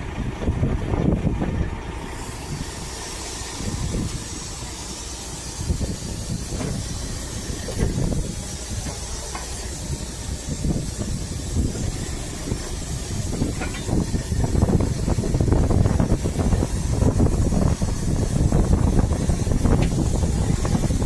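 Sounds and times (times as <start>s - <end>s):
heavy truck engine rumbling: 0.0s - 21.0s
steady hiss: 1.9s - 21.0s.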